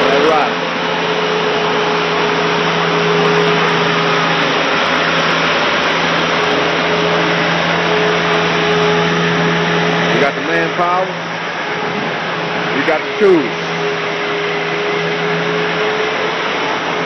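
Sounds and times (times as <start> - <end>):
power trowel engine hum: 0.0 - 17.0.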